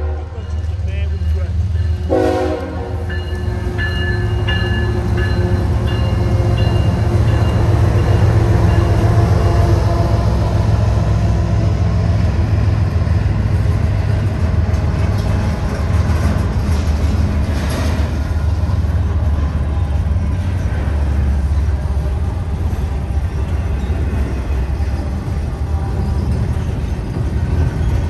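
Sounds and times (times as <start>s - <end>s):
locomotive engine rumble: 0.0s - 28.0s.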